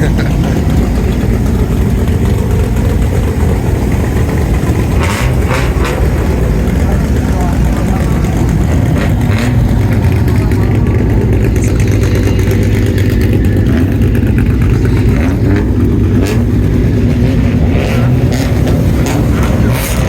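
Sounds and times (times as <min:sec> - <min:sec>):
car engine exhaust rumbling: 0:00.0 - 0:20.0.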